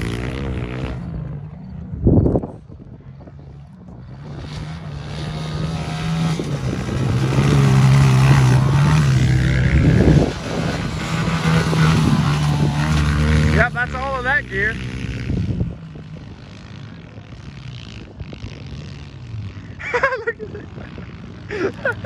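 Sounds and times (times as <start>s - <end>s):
pit bike engines racing: 0.0s - 22.0s.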